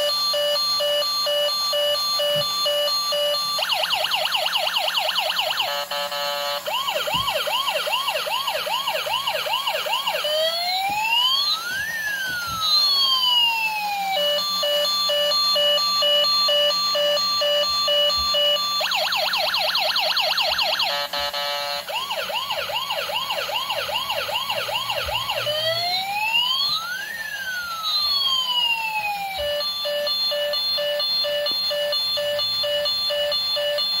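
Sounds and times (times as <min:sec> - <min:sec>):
electronic emergency siren: 0:00.0 - 0:34.0.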